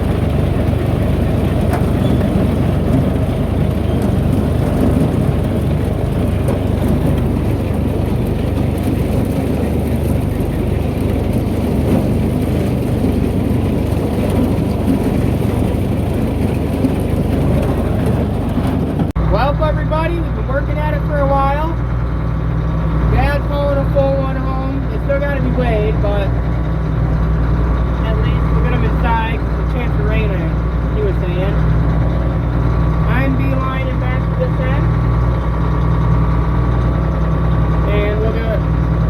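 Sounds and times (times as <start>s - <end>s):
corn elevator running: 0.0s - 39.0s
tractor running: 0.0s - 39.0s.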